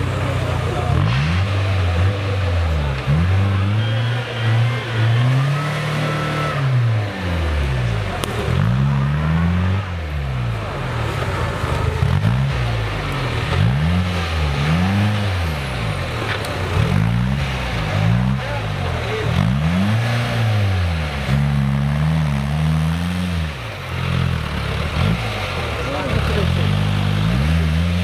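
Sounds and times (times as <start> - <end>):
off-road engine revving: 0.0 - 28.0.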